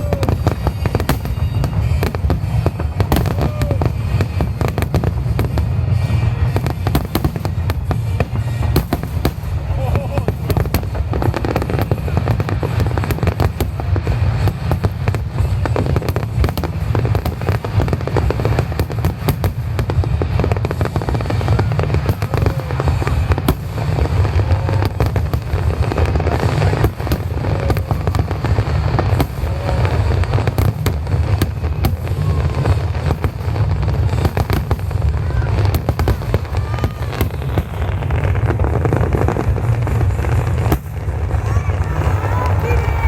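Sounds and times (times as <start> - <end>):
fireworks bursting with sharp cracks: 0.0 - 43.0.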